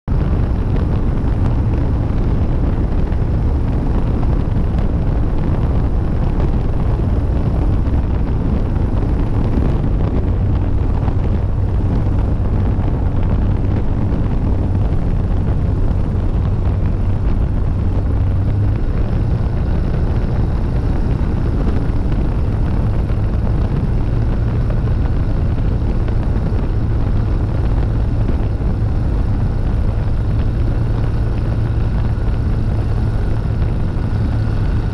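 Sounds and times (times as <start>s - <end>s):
aircraft engine and propeller: 0.0s - 34.9s
wind rushing over microphone: 0.0s - 34.9s.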